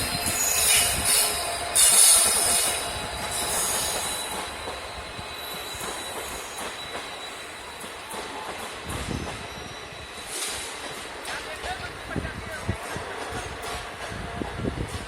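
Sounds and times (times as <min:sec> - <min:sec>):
train wheels rumbling: 0:00.0 - 0:15.0
train wheels squealing on rails: 0:00.0 - 0:15.0.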